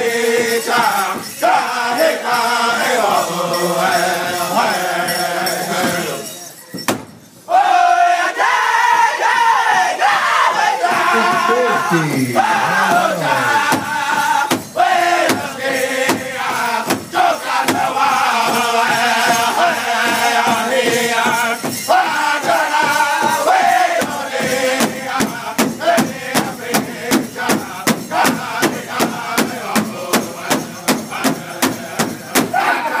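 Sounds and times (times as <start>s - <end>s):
group chanting: 0.0s - 6.2s, 7.5s - 33.0s.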